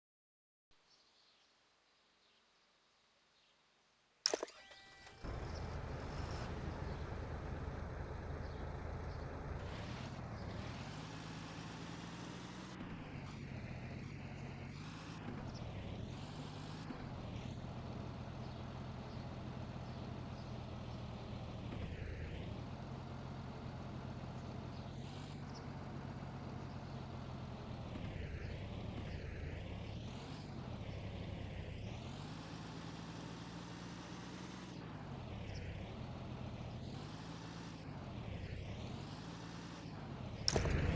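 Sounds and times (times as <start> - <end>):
tractor diesel engine under load: 5.2 - 40.9.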